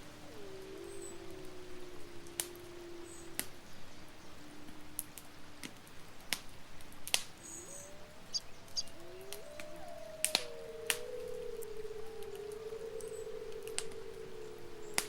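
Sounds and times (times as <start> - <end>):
low wavering whistle: 0.0 - 6.1, 7.2 - 15.0
campfire crackling: 0.0 - 15.0.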